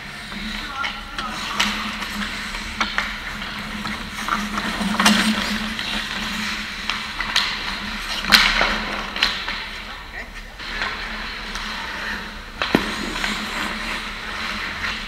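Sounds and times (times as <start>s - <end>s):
low rink hum: 0.0s - 15.0s
skate blades scraping ice: 0.0s - 15.0s
sticks and puck clacking: 0.0s - 15.0s.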